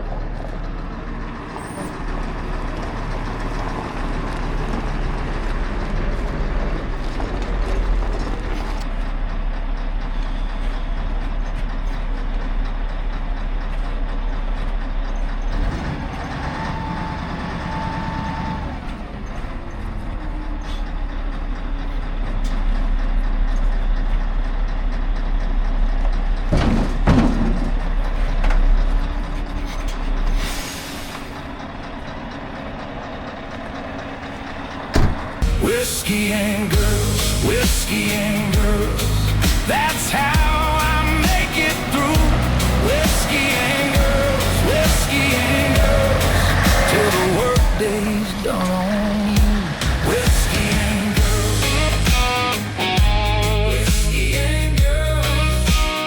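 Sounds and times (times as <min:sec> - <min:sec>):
diesel machinery droning: 0:00.0 - 0:56.0.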